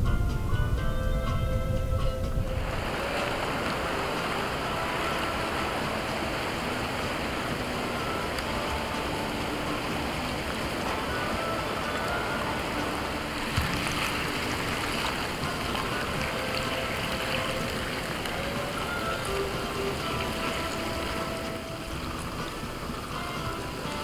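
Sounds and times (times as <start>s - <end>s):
ice and slush fizzing hiss: 2.5s - 24.0s.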